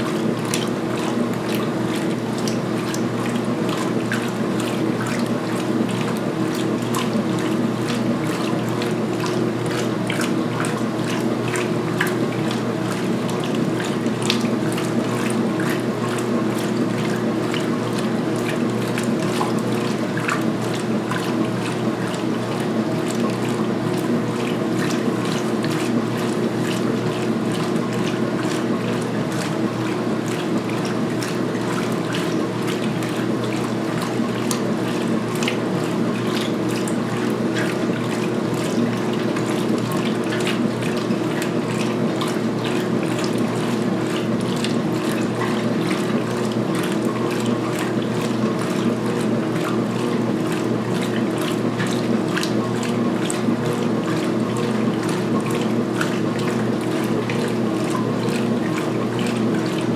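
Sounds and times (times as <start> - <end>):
washing machine motor hum: 0.0 - 59.9
water sloshing in tub: 0.0 - 59.9.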